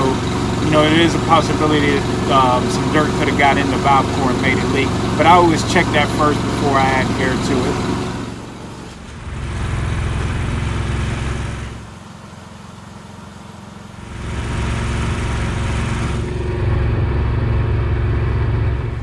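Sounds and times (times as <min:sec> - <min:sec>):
air compressor running: 0:00.0 - 0:19.0.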